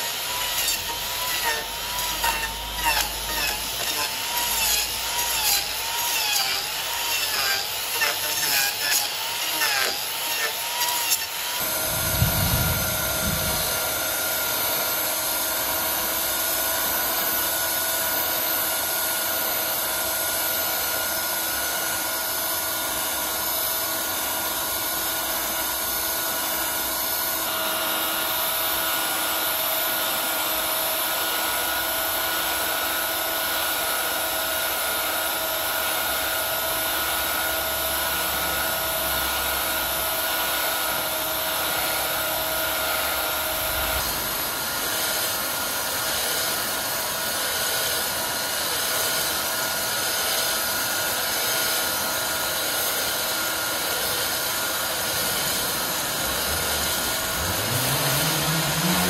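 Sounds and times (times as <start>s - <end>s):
sawmill machinery whining: 0.0s - 59.0s.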